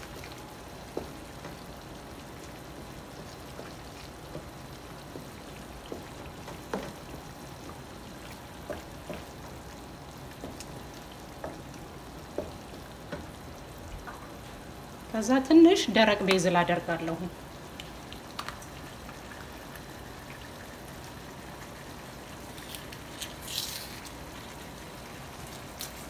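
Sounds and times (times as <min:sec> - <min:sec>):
sauce sizzling in a pan: 0:00.0 - 0:26.0.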